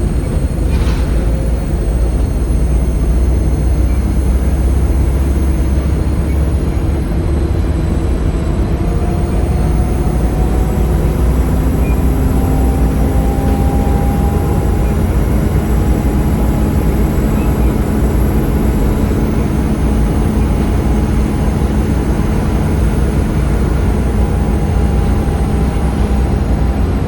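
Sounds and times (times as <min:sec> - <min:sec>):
bus diesel engine running: 0:00.0 - 0:27.0
faint high whine: 0:00.0 - 0:27.0.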